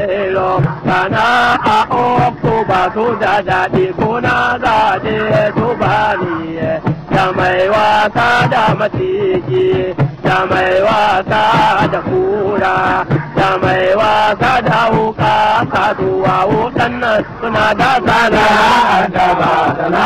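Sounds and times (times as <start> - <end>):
drum strokes: 0.0 - 20.0
man singing: 0.0 - 20.0.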